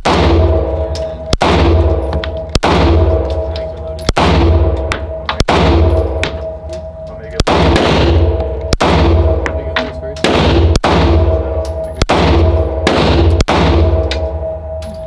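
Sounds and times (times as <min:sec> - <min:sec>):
handgun shots echoing: 0:00.0 - 0:14.4.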